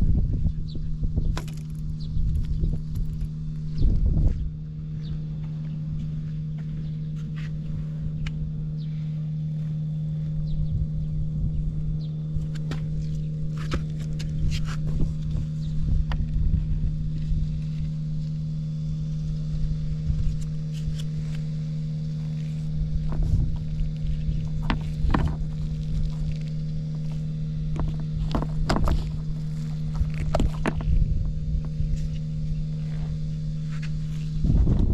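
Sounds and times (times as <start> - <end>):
scooter engine running: 0.0 - 34.9.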